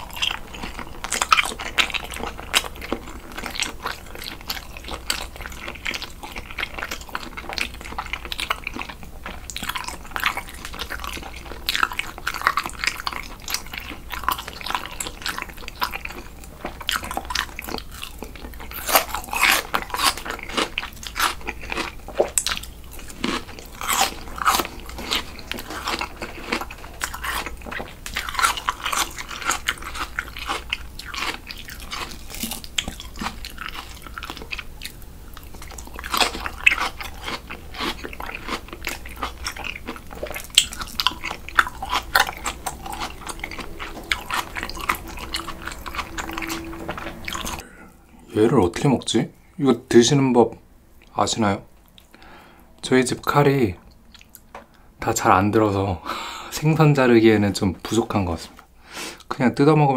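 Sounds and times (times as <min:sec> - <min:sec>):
person chewing crisp onion: 0:00.0 - 0:48.3, 0:53.4 - 0:55.2.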